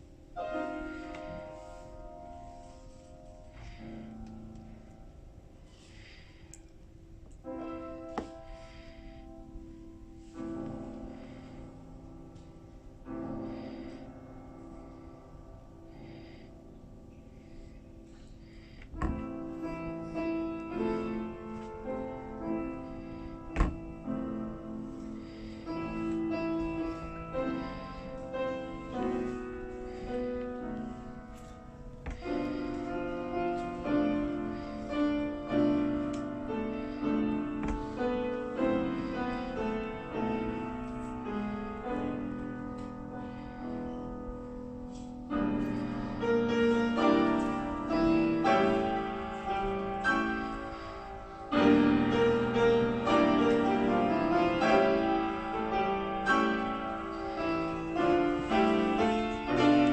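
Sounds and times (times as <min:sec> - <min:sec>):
slow solo piano piece: 0:00.0 - 0:59.9.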